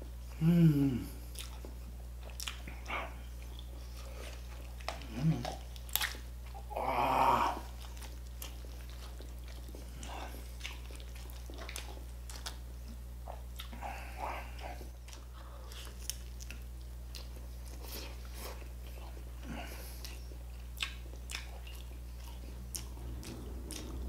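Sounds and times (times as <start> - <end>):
chewing and eating: 1.0 - 24.0.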